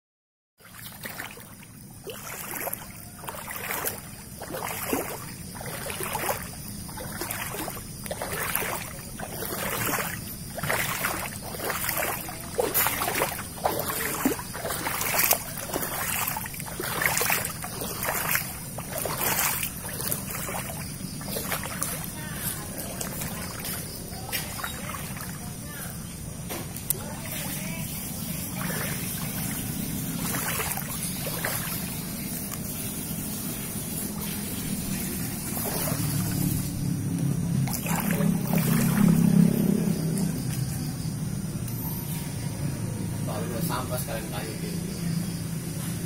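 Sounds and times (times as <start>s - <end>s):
footsteps wading through water: 0.6s - 41.5s.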